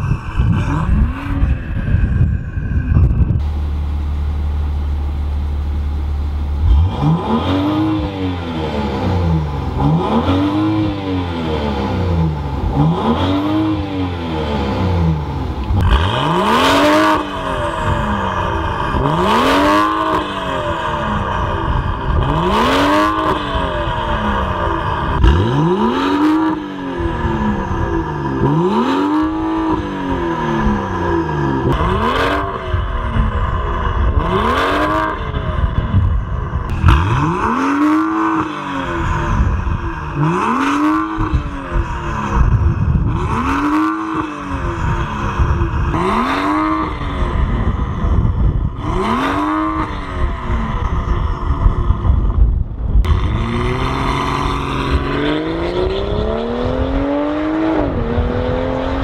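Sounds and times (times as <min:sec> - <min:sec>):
car engine revving: 0:00.0 - 0:52.4, 0:53.0 - 0:59.0
exhaust crackle: 0:00.0 - 0:57.1.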